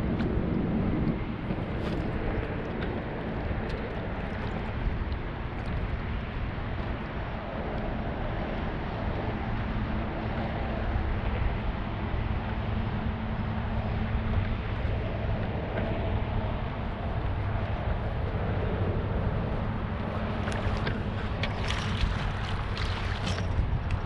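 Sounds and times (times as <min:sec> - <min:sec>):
wind noise on microphone: 0:00.0 - 0:24.0.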